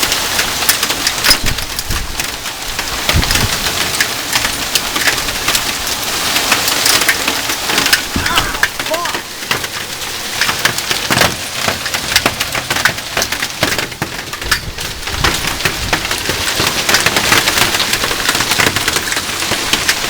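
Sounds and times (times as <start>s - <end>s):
hailstones pelting wooden deck: 0.0s - 20.0s
rain hiss: 0.0s - 20.0s.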